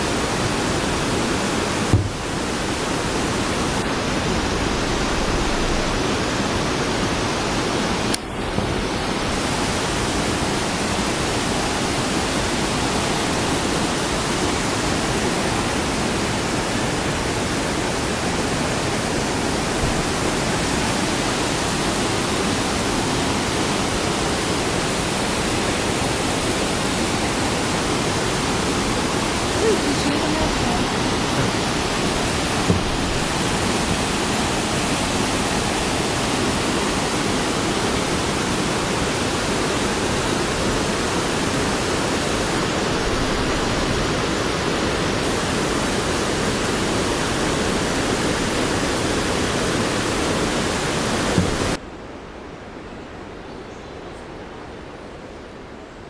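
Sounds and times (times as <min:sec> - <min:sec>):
waterfall rushing: 0:00.0 - 0:51.8.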